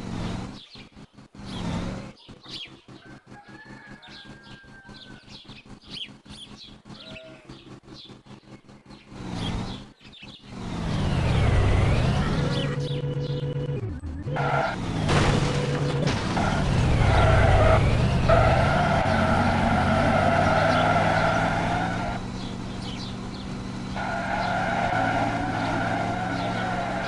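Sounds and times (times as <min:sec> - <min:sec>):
engine revving: 0:00.0 - 0:02.7, 0:07.5 - 0:27.0.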